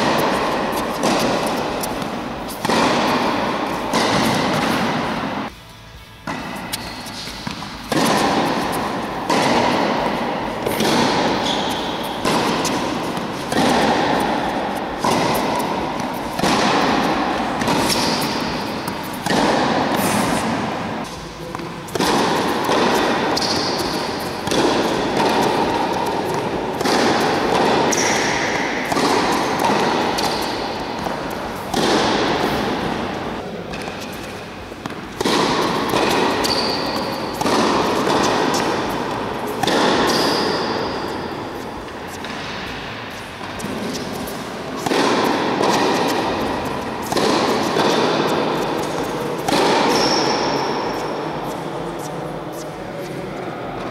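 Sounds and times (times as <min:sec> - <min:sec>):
tennis ball bouncing: 0:00.0 - 0:05.5, 0:06.2 - 0:52.7
tennis racket hitting ball: 0:00.0 - 0:05.5, 0:06.2 - 0:53.1.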